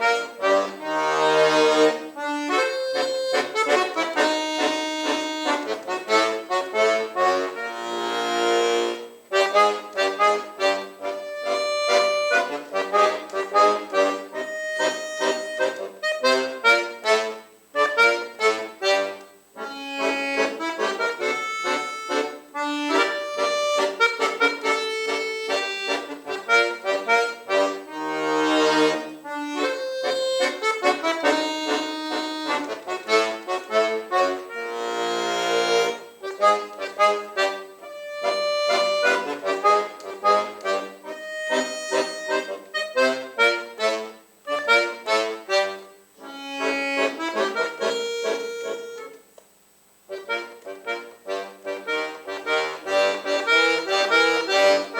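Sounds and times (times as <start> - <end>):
accordion playing: 0.0 - 49.4, 50.0 - 54.9.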